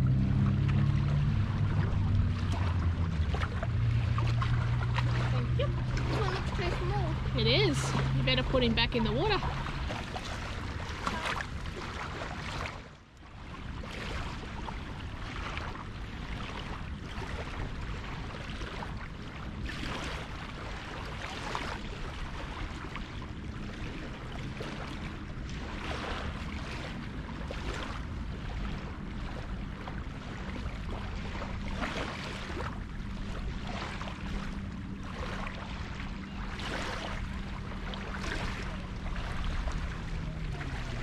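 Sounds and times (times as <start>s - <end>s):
small waves lapping: 0.0s - 41.0s
wind rumbling on microphone: 0.0s - 41.0s.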